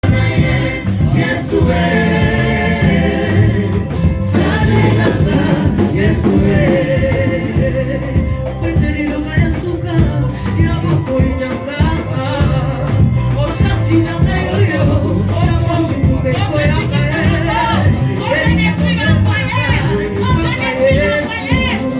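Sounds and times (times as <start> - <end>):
full band playing: 0.0 - 21.9
gospel singing: 0.0 - 21.9
steady drum beat: 0.0 - 21.9.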